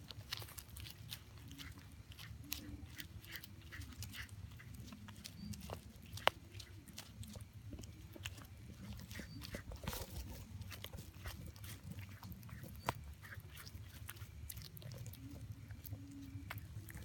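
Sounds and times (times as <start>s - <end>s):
kitten chewing raw fish: 0.0s - 17.0s
low steady rumble: 0.0s - 17.0s.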